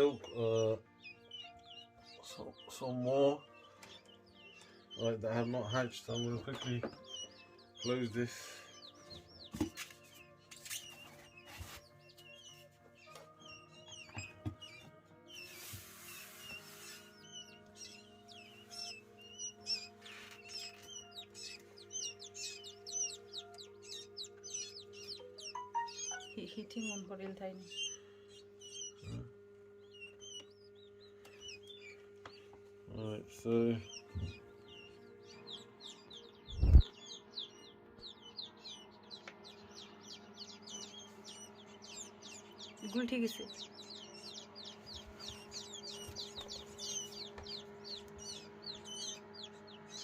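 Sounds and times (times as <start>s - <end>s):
quail chicks peeping: 0.0s - 50.0s.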